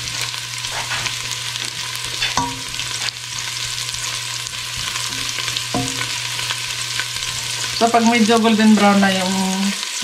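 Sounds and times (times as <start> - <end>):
garlic sizzling in oil: 0.0 - 10.0.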